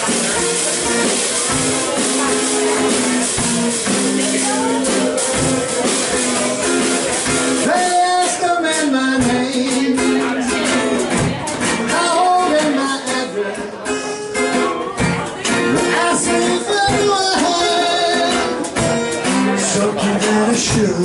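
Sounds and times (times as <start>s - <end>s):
amplified acoustic guitar: 0.0s - 21.0s
drum kit playing: 0.0s - 21.0s.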